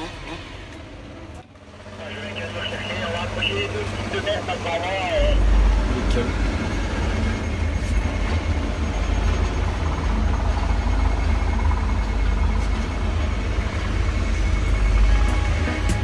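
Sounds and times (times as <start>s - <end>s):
crane cab rumble and hum: 0.0s - 16.0s
faint high whine: 2.0s - 16.0s.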